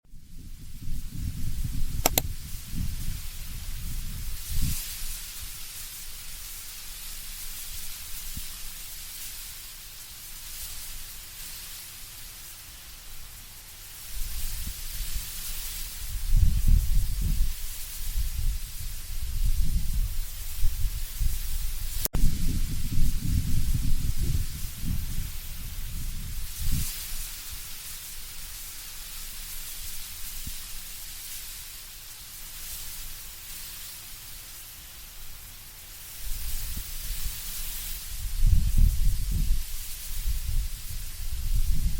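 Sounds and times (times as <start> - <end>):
leaves rustling in wind: 0.1 - 41.9.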